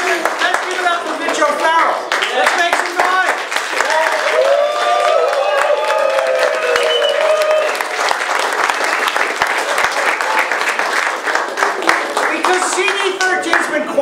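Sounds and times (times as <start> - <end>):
crowd applauding: 0.0 - 14.0
crowd cheering: 2.2 - 13.5.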